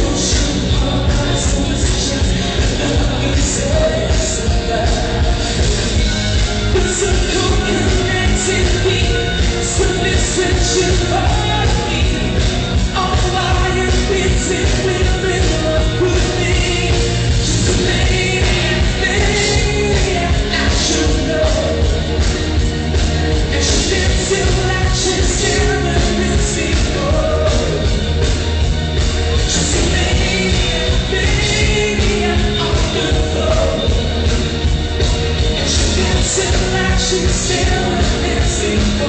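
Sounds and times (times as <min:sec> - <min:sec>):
loud rock music with singer: 0:00.0 - 0:39.0.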